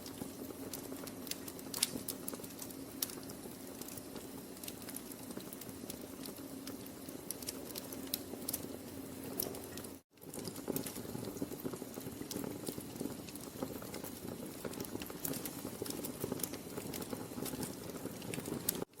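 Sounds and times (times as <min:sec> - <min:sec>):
sharp pops and snaps: 0:00.0 - 0:19.0
steady hiss of flames: 0:00.0 - 0:19.0
wood fire crackling: 0:00.0 - 0:19.0.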